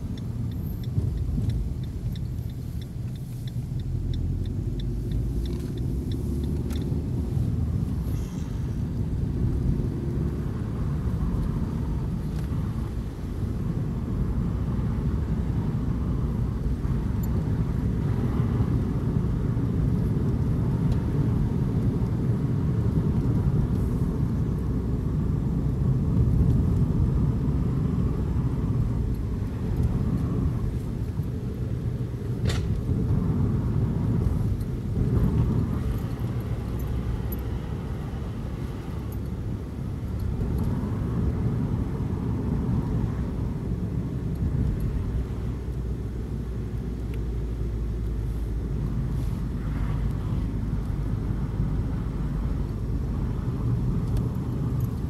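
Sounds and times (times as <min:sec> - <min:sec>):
car interior road and engine rumble: 0:00.0 - 0:55.0.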